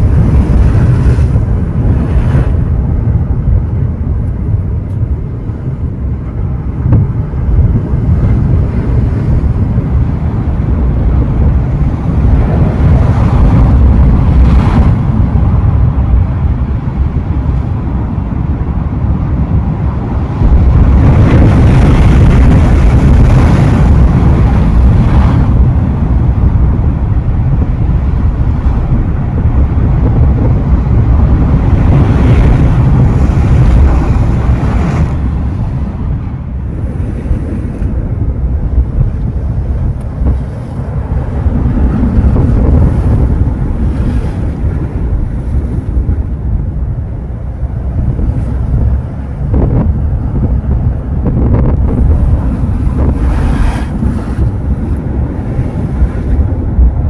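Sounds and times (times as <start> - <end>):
ocean waves breaking: 0.0 - 57.0
wind buffeting microphone: 0.0 - 57.0.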